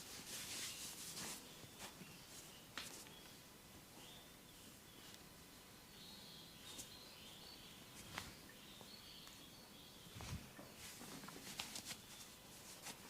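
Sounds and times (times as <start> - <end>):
faint bird chirps: 0.5 - 11.1.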